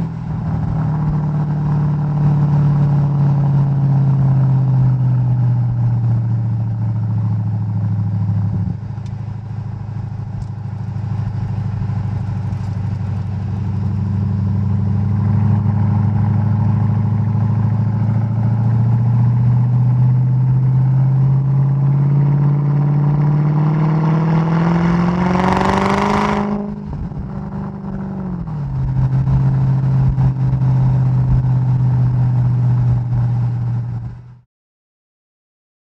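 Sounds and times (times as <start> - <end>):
car engine accelerating: 0.0 - 34.4.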